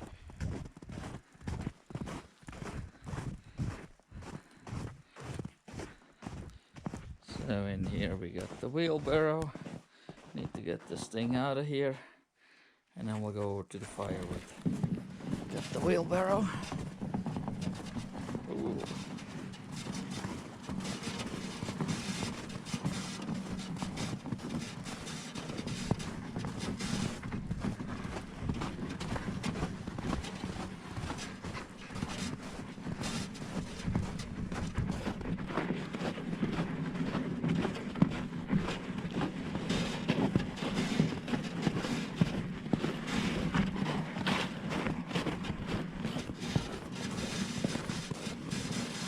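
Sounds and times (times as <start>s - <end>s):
footsteps: 0.0s - 11.2s, 13.1s - 49.0s
wheelbarrow pushed through snow: 0.0s - 11.6s, 13.1s - 49.0s.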